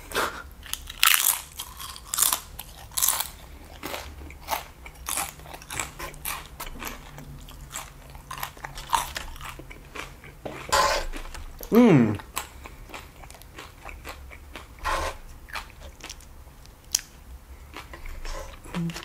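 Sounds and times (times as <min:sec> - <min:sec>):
chips crunching while chewed: 0:00.6 - 0:16.3.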